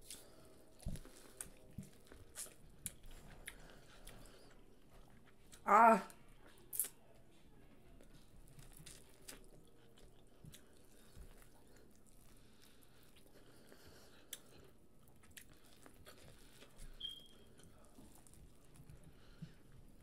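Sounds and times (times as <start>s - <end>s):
person chewing food: 0.0s - 5.6s, 8.0s - 20.0s.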